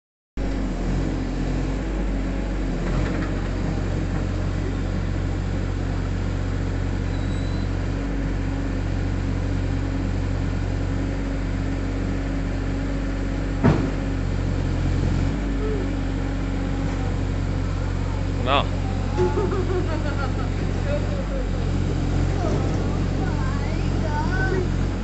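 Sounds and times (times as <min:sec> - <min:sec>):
mini excavator diesel engine: 0:00.4 - 0:25.0.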